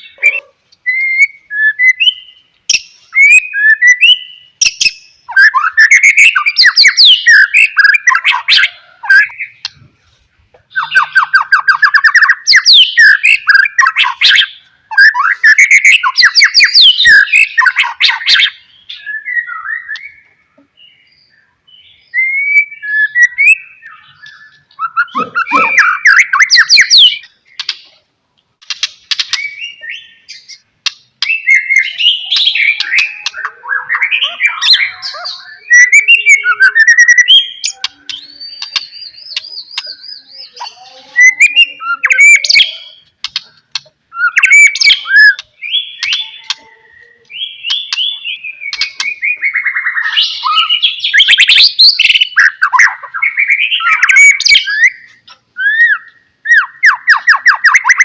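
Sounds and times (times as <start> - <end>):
bird singing whistled phrases: 0.0 - 9.7, 10.7 - 20.3, 21.1 - 27.7, 29.2 - 30.6, 31.2 - 43.1, 44.1 - 58.0.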